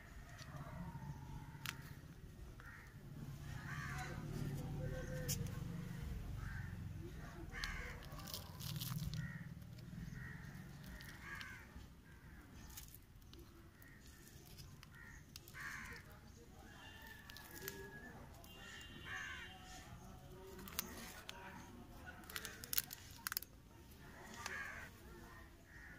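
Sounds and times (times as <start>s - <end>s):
soil rustling and crunching: 0.0s - 5.7s, 6.4s - 25.9s
crows cawing: 0.4s - 5.3s, 6.3s - 21.4s, 24.1s - 25.9s.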